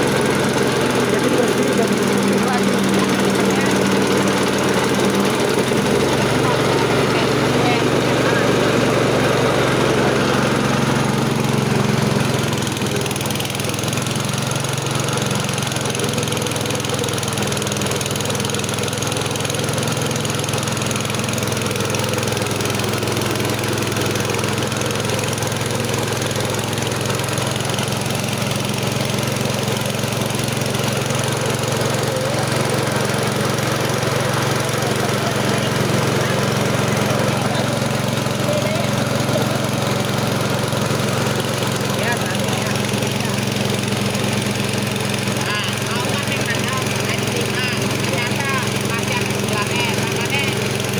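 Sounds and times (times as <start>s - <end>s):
rice milling machine engine running: 0.0s - 50.9s.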